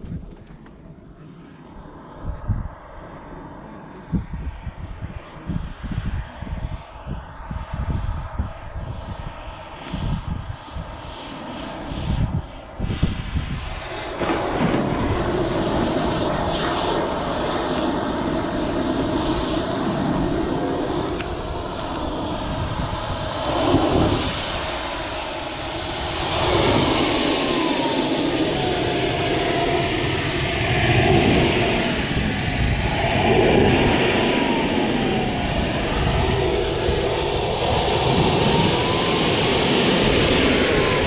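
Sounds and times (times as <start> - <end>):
jet turbine engine whining: 0.0 - 41.0.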